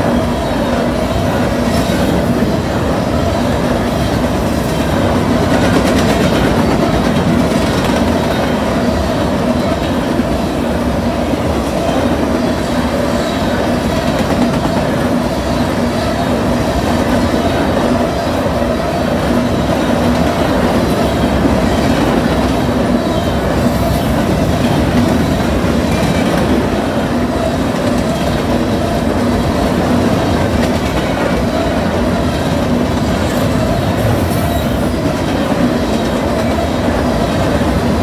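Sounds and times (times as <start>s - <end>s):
freight train rumbling past: 0.0s - 38.0s
wheels clacking over rail joints: 0.0s - 38.0s.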